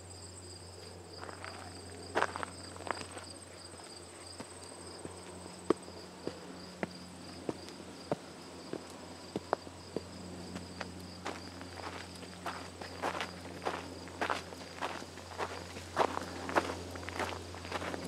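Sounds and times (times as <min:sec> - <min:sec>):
high insect tone: 0:00.0 - 0:18.0
insects trilling: 0:00.0 - 0:18.0
footsteps on dirt trail: 0:00.8 - 0:18.0.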